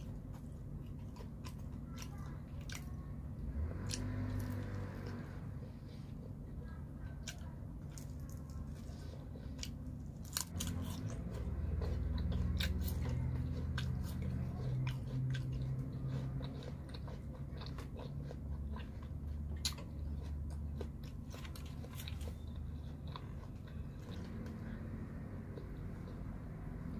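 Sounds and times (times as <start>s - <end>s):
person chewing crunchy food: 0.0s - 26.9s.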